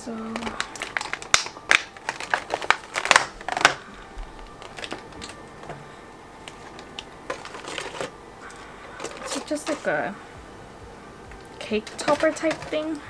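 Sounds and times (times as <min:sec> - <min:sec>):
plastic bag crinkling: 0:00.0 - 0:10.0, 0:11.4 - 0:13.0.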